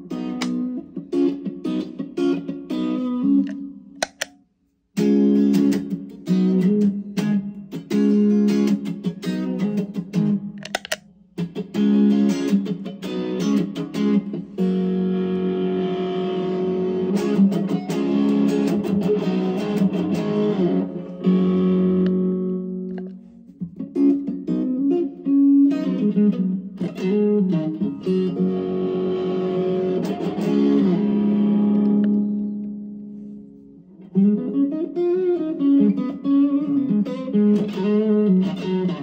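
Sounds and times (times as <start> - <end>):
overdriven electric guitar chords: 0.0 - 4.3, 5.0 - 39.0.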